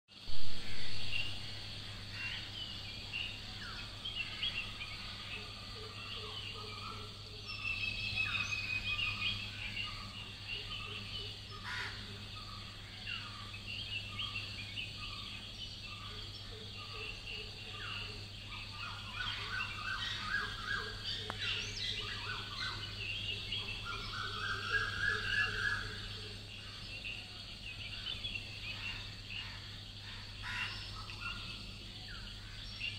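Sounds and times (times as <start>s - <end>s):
birds calling: 0.1s - 32.9s
insects buzzing: 0.1s - 32.9s
low steady hum: 0.2s - 32.9s.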